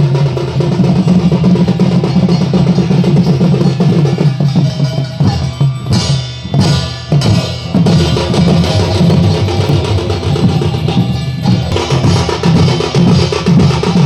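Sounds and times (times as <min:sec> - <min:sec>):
cymbals clashing: 0:00.0 - 0:14.0
loud drumming: 0:00.0 - 0:14.0.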